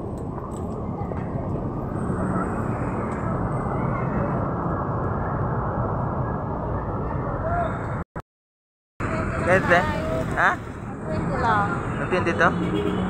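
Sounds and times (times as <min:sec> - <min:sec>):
traffic rumble: 0:00.0 - 0:08.0, 0:09.0 - 0:13.0.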